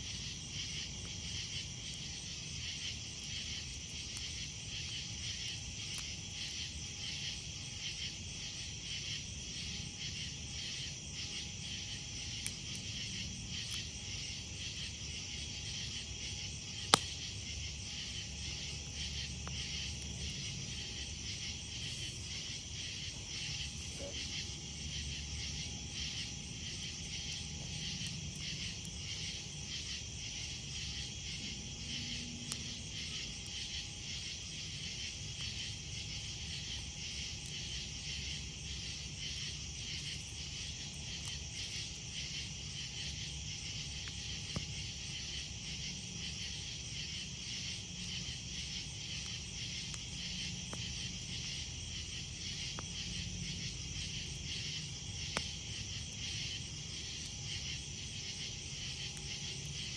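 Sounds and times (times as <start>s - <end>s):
campfire crackles: 0.0s - 59.9s
night insects chirping: 0.0s - 59.9s.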